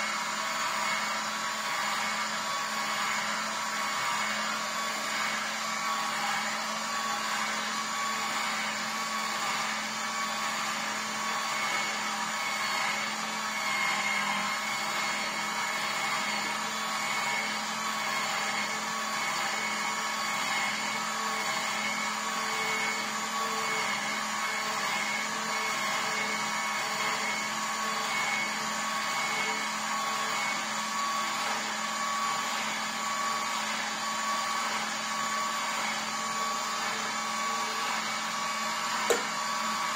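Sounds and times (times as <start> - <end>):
juicer motor humming: 0.0 - 39.9.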